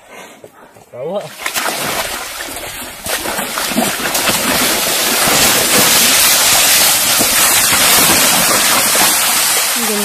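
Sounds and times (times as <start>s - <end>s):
water splashing and churning: 1.3s - 10.0s.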